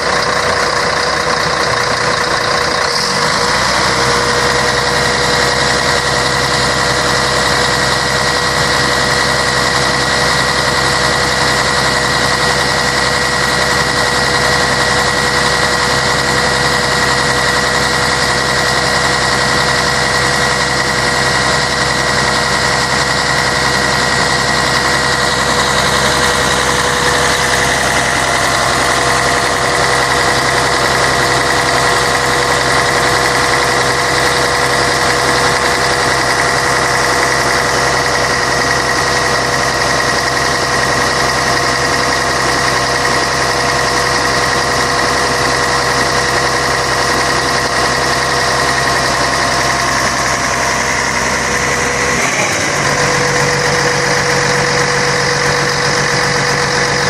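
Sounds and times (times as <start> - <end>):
diesel bus engine running: 0.0 - 57.0
high whine: 0.0 - 57.0.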